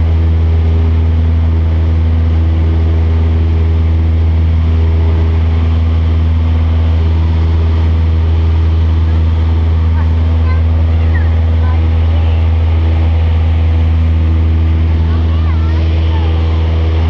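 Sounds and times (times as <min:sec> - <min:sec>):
plane engine droning in cabin: 0:00.0 - 0:17.0.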